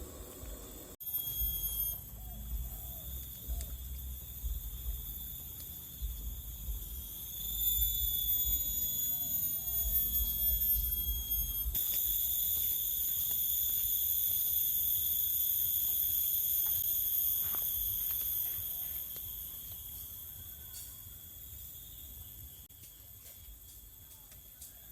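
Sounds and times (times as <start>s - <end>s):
insect drone high-pitched whine: 0.0s - 24.9s.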